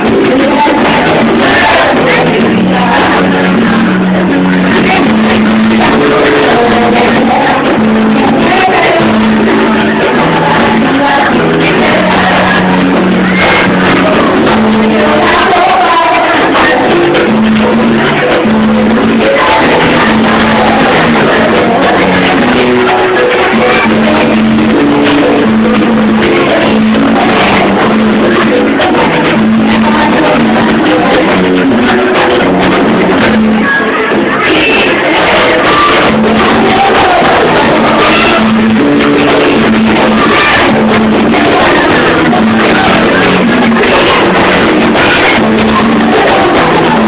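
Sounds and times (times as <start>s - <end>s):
girls singing into microphones: 0.0s - 47.0s
live band playing: 0.0s - 47.0s.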